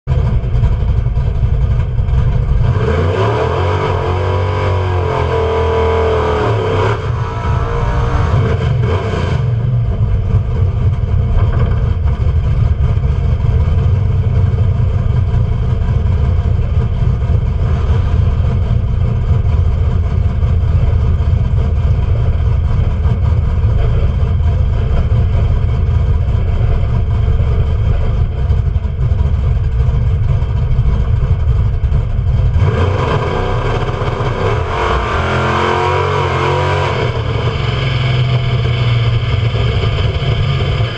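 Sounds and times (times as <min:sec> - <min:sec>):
vehicle engine revving: 0:00.1 - 0:40.9.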